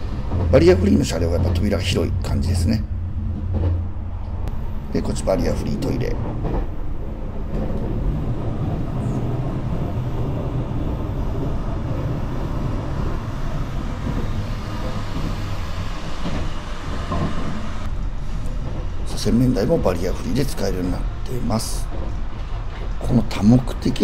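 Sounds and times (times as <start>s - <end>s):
electric train rumbling: 0.0s - 24.0s.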